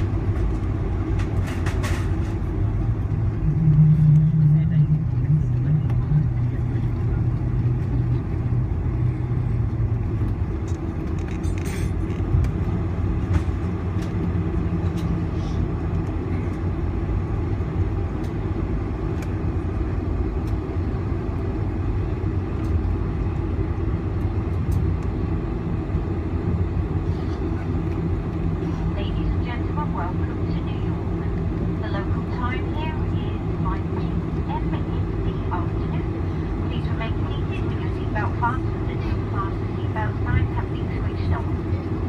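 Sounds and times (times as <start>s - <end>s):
low rumble of engines and wheels: 0.0s - 42.0s.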